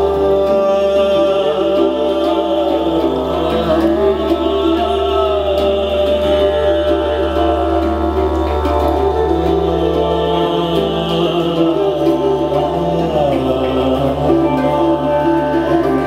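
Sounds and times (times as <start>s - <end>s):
flute playing held notes: 0.0s - 16.0s
handpan: 0.0s - 16.0s
low drone: 0.0s - 16.0s.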